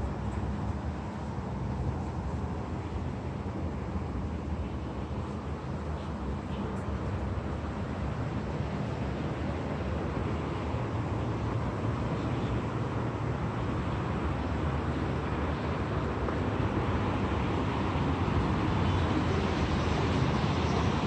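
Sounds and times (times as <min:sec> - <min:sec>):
low outdoor background hum: 0:00.0 - 0:21.0.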